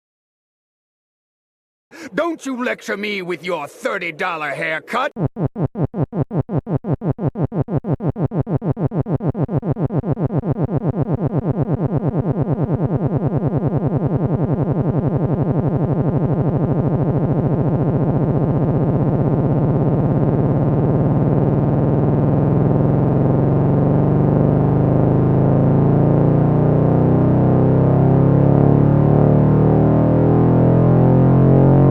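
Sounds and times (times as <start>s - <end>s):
fart sound effect looped: 4.6s - 31.9s.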